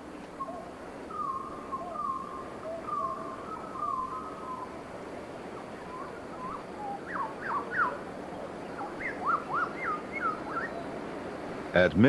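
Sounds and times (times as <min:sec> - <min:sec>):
birds whistling: 0:00.0 - 0:11.7
steady background hiss: 0:00.0 - 0:12.0.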